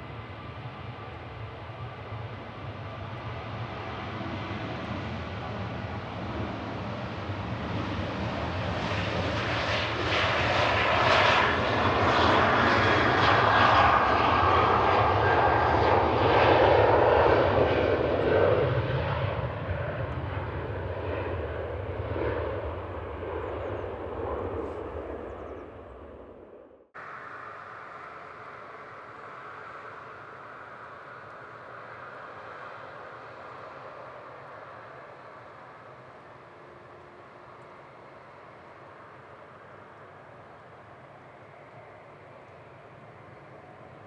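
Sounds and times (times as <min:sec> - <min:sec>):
jet engines passing: 0:00.0 - 0:44.0.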